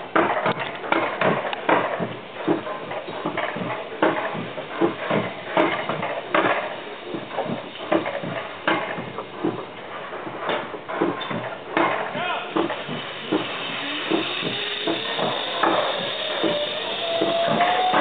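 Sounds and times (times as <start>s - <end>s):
coaster cart clacking on rails: 0.0s - 18.0s.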